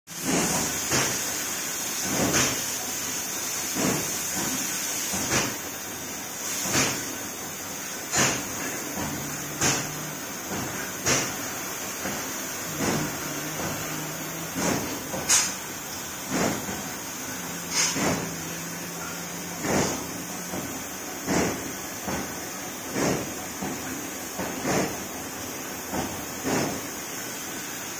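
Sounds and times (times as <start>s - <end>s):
cutting torch hissing: 0.1s - 25.0s.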